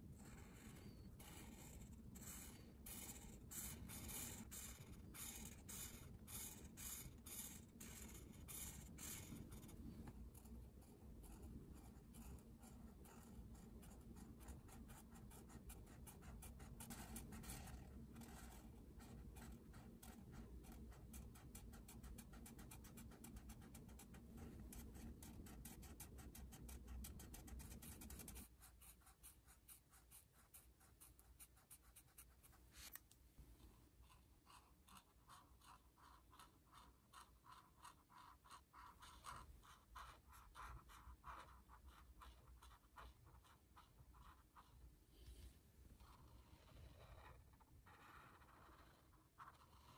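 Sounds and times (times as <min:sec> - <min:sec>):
marker tips scratching paper: 0:00.2 - 0:33.0, 0:34.0 - 0:45.4, 0:46.0 - 0:49.9.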